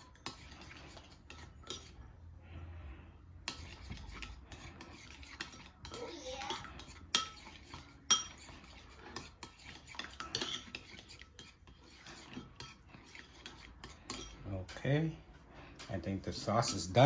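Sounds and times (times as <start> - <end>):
spoon clinking and scraping bowl: 0.0 - 2.1, 3.4 - 14.9, 15.8 - 17.0.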